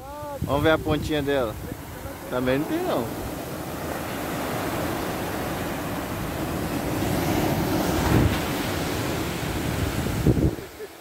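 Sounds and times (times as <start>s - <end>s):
ocean surf on sandy beach: 0.0s - 11.0s
wave crash: 0.0s - 11.0s.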